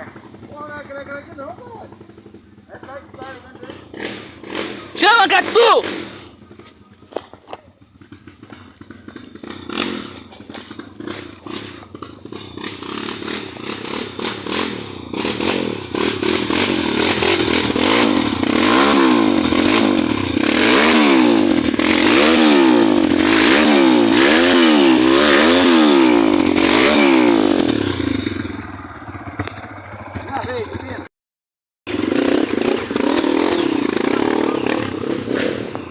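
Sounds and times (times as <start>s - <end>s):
motorcycle engine revving: 0.0s - 31.1s, 31.9s - 35.9s.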